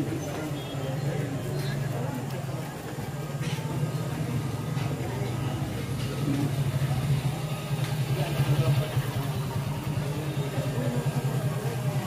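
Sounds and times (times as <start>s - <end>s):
street noise: 0.0s - 12.0s
motorcycle engine idling: 0.1s - 12.0s.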